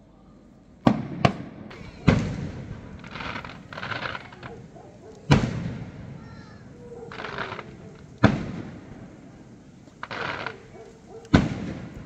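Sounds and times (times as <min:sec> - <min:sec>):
fireworks bangs: 0:00.8 - 0:12.0
fireworks crackling: 0:00.8 - 0:12.0.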